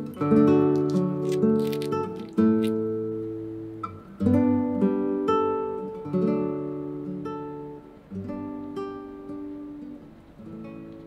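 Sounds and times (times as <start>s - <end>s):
acoustic guitar plucking chords: 0.0s - 11.0s.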